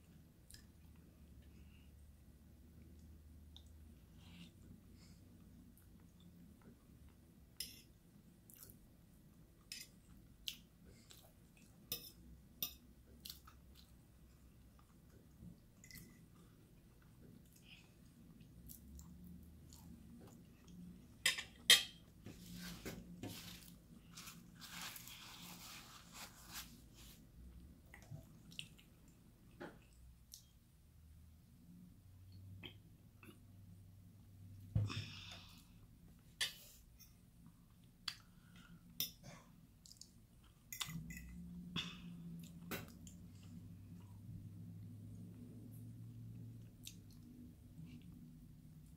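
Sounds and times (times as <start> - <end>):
soft chewing: 0.0 - 2.0, 2.6 - 30.8, 35.3 - 48.9
low steady hum: 0.0 - 48.9.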